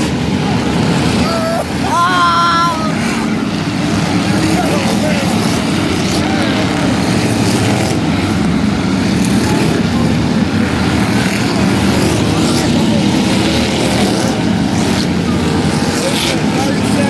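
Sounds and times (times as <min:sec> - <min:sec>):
racing car engines: 0:00.0 - 0:17.0.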